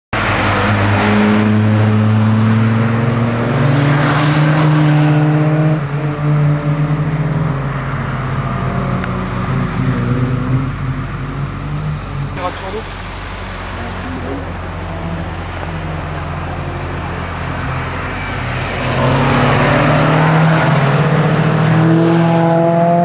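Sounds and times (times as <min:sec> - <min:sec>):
cars driving past at speed: 0:00.2 - 0:23.0.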